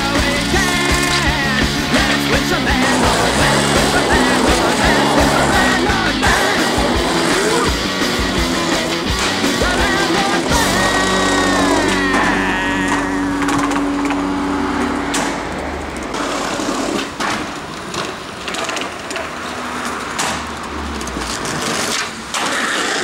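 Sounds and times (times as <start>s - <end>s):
skateboard clacks: 0.0s - 14.2s, 16.0s - 23.0s
skateboard trucks grinding on wood: 0.0s - 23.0s
skateboard wheels rolling: 0.0s - 23.0s.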